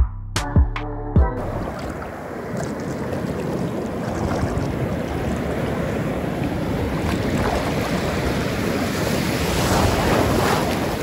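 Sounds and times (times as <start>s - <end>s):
wind buffeting microphone: 1.4s - 11.0s
ocean surf breaking: 1.6s - 11.0s.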